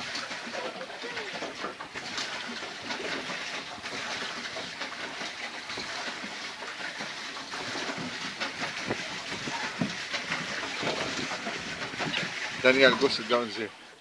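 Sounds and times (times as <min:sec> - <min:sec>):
motor boat engine clatter: 0:00.0 - 0:13.8
water rushing: 0:00.0 - 0:14.0.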